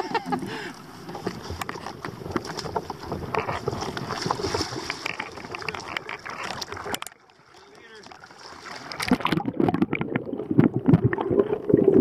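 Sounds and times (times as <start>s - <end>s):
seawater lapping and splashing: 0.0s - 12.0s.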